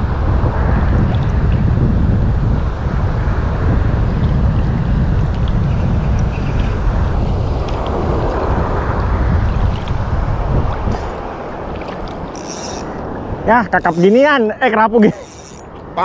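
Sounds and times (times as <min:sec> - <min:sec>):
sea: 0:00.0 - 0:16.0
wind buffeting microphone: 0:00.0 - 0:16.0.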